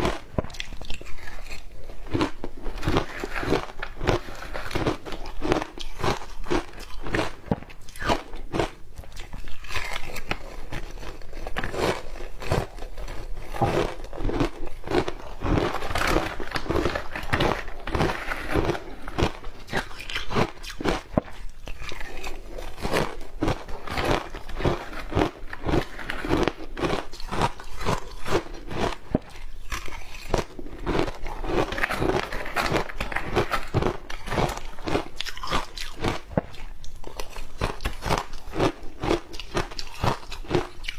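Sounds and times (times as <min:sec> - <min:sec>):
person crunching ice: 0:00.0 - 0:40.9.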